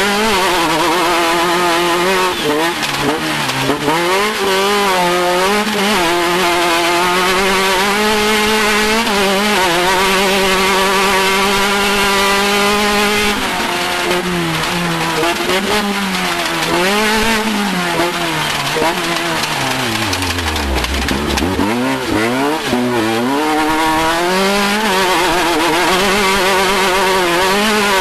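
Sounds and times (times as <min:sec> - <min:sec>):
engine revving high: 0:00.0 - 0:28.0.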